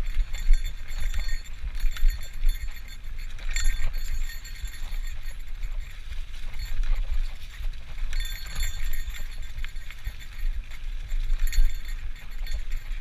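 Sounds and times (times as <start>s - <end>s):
bicycle frame rattling and clicking: 0.0s - 13.0s
wind rumble on microphone: 0.0s - 13.0s.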